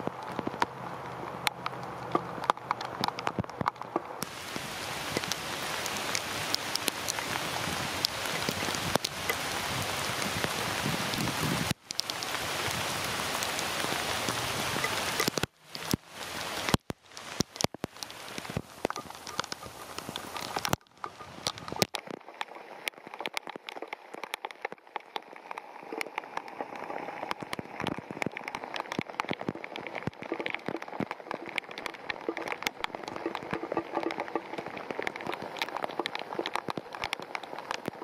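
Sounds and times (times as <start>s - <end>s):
close raindrop ticks: 0.0s - 38.0s
heavy rain hiss: 0.0s - 38.0s.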